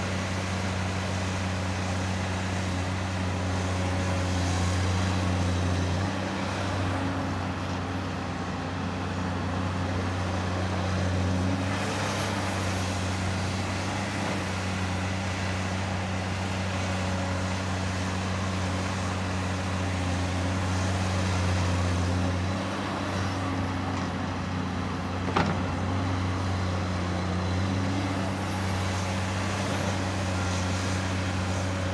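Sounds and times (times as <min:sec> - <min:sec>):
excavator diesel engine droning: 0:00.0 - 0:31.9.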